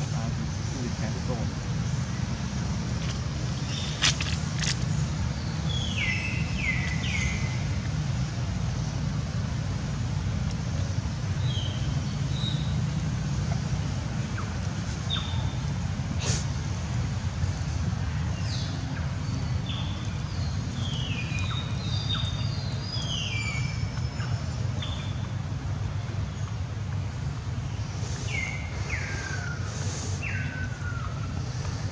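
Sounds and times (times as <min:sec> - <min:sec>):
low outdoor rumble: 0:00.0 - 0:31.9.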